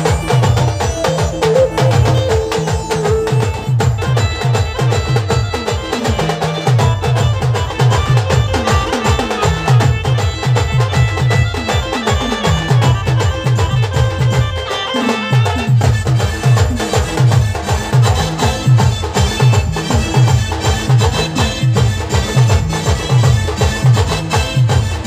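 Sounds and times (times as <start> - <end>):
fast dense drumming: 0.0 - 14.6, 15.6 - 25.0
keyboard melody: 0.0 - 25.0.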